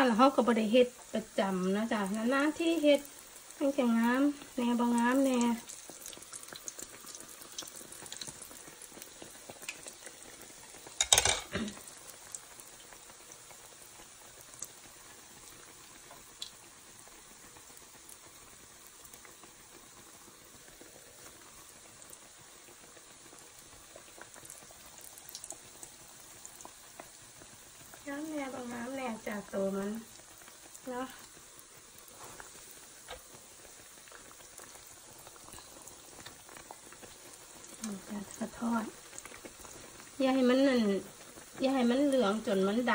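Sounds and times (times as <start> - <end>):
dough sizzling in hot oil: 0.0 - 42.9.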